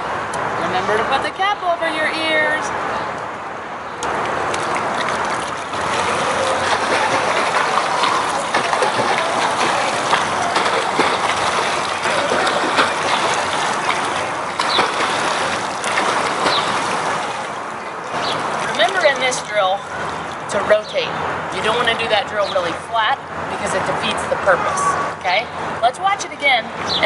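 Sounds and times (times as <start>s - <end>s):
pool water splashing: 0.0s - 26.8s.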